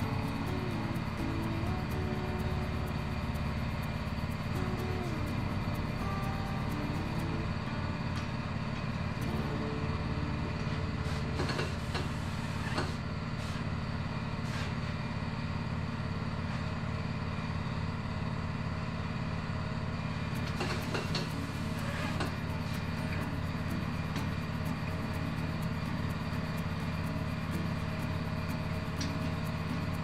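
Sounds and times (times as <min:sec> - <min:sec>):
tyre changer motor hum: 0:00.0 - 0:30.0.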